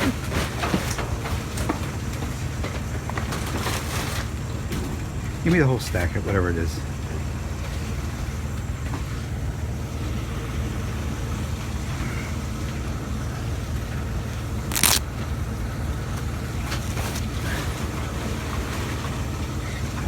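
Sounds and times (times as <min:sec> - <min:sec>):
vehicle engine idling: 0:01.2 - 0:20.0.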